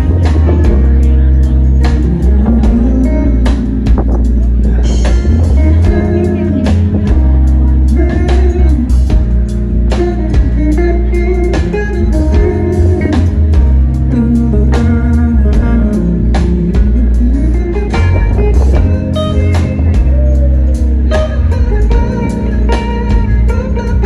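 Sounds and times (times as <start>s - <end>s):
acoustic guitar: 0.0s - 24.0s
live band playing: 0.0s - 24.0s.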